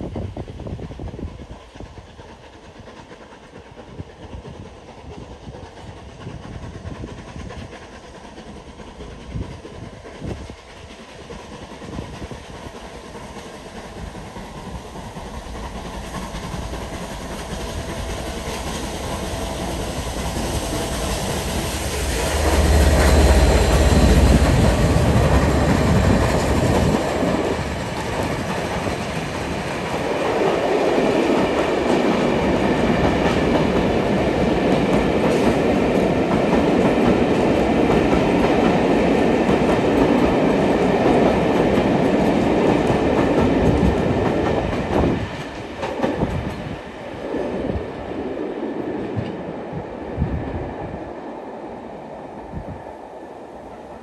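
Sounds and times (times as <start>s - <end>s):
steam train passing: 0.0s - 54.0s.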